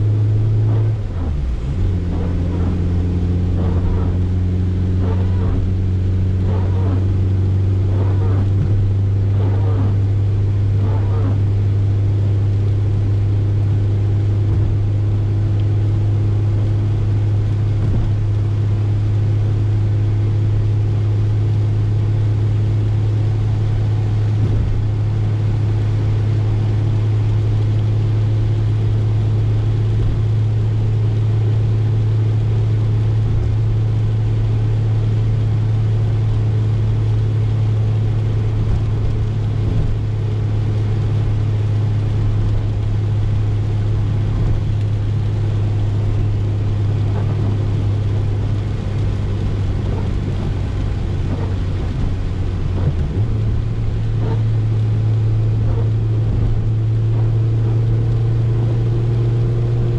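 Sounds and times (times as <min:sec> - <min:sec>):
car engine low drone: 0:00.0 - 0:59.9
tyres hissing on wet road: 0:00.0 - 0:59.9.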